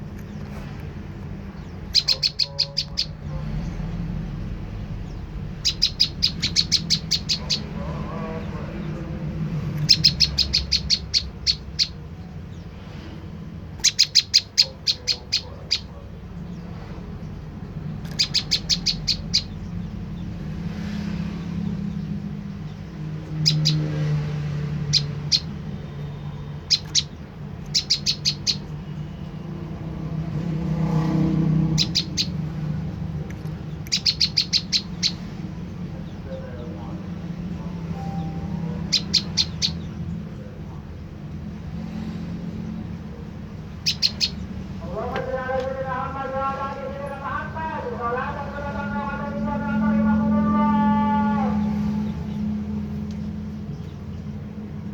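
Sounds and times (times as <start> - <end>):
bird chipping notes: 0.0 - 54.9
steady low hum: 0.0 - 54.9.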